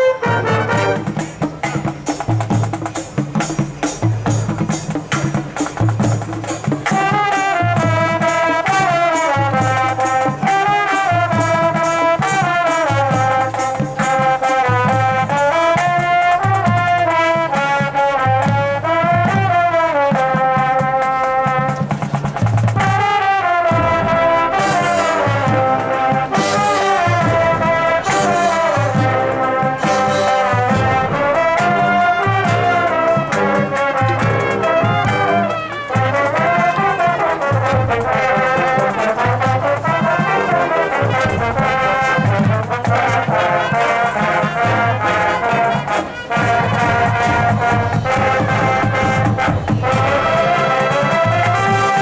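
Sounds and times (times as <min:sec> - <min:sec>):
brass melody: 0:00.0 - 0:52.0
marching band playing: 0:00.0 - 0:52.0
quick percussion strokes: 0:00.7 - 0:19.5, 0:20.2 - 0:52.0.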